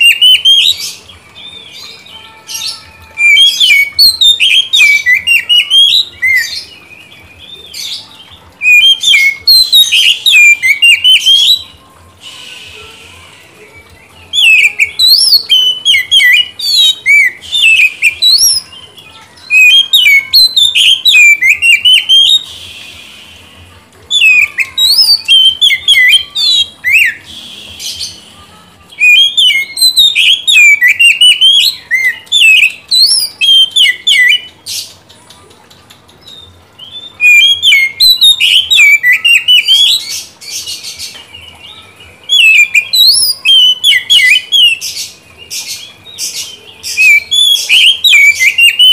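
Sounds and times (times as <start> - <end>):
bird singing chirps and whistles: 0.0 - 35.0, 36.2 - 48.9.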